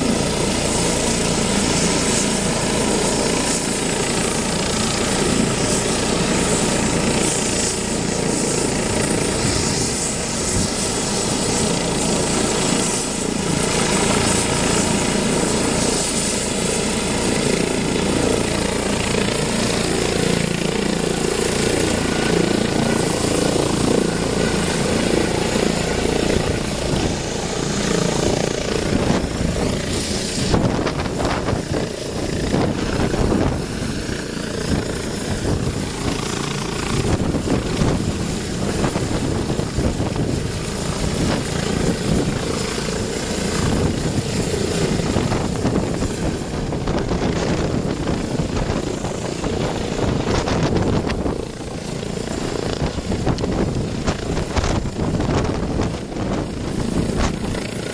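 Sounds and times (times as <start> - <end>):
helicopter rotor thrum: 0.0 - 57.9
turbine engine whine: 0.0 - 57.9.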